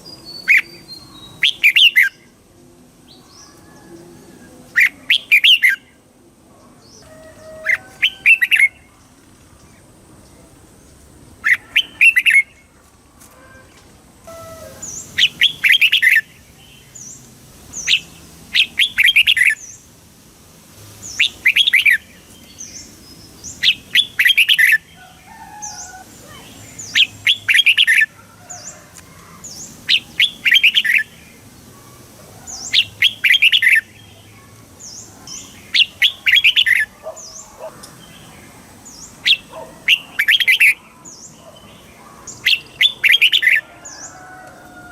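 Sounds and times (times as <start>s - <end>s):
bird singing warbled phrases: 0.0s - 2.4s, 4.3s - 12.8s, 13.6s - 19.9s, 21.0s - 44.2s.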